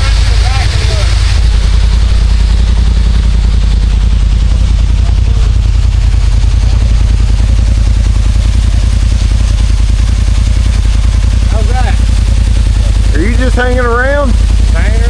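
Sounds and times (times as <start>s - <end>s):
utility vehicle engine rumbling: 0.0s - 15.0s.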